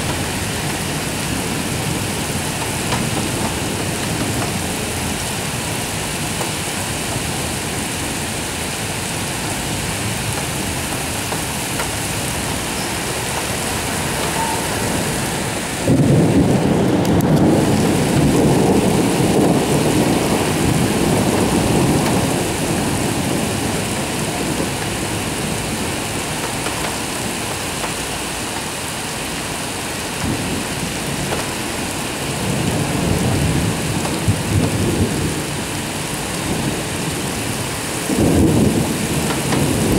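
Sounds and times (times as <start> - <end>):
steady rain falling: 0.0 - 39.9
thunder rumbling: 0.0 - 39.9.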